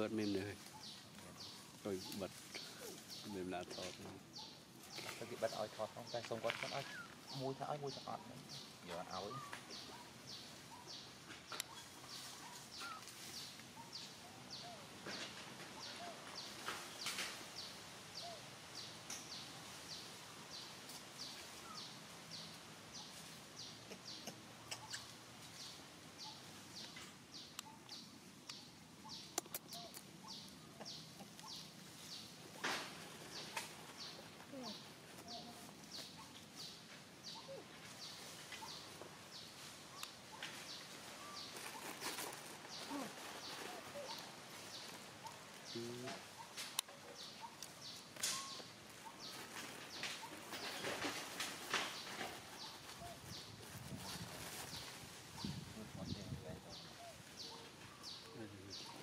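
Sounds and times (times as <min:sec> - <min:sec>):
small bird chirping: 0:00.1 - 0:59.0.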